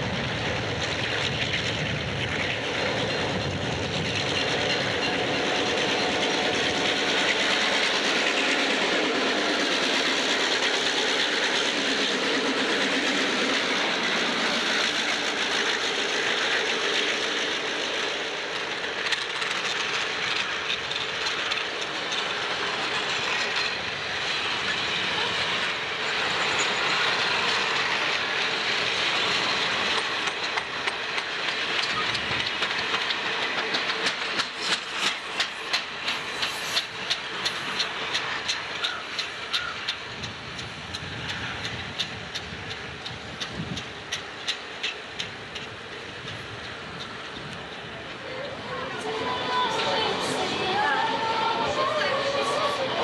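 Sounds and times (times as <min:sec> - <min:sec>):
diesel locomotives passing: 0:00.0 - 0:53.0
train coaches rumbling past: 0:00.0 - 0:53.0
wheels clicking over rail joints: 0:00.0 - 0:53.0.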